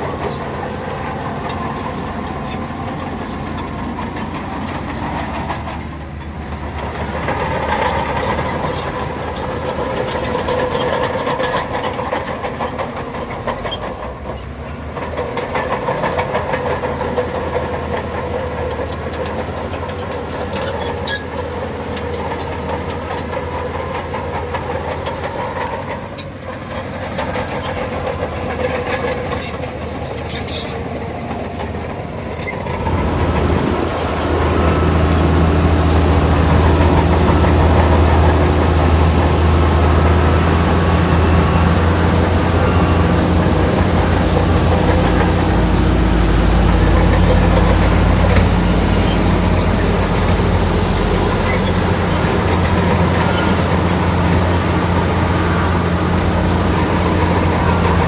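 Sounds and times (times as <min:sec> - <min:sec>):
bulldozer diesel engine under load: 0:00.0 - 0:58.0
metallic clatter of tracks: 0:00.0 - 0:58.0.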